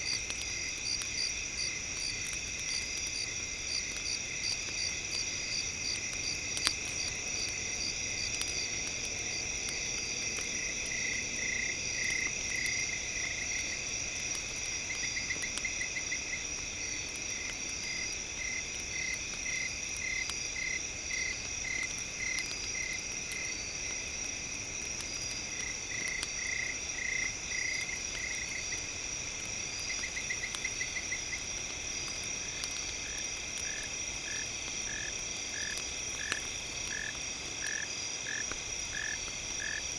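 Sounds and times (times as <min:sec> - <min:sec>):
campfire crackling: 0:00.0 - 0:39.9
insects trilling: 0:00.0 - 0:39.9.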